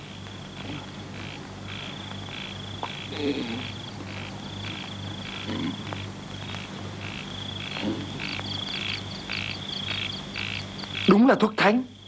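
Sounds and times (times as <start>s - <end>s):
frogs croaking: 0.0s - 12.0s
insects chirping: 0.0s - 12.0s.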